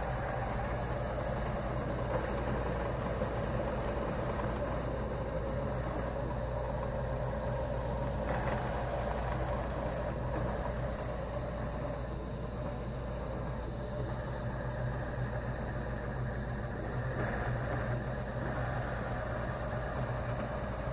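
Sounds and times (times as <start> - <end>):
sewing machine motor hum: 0.0 - 20.9.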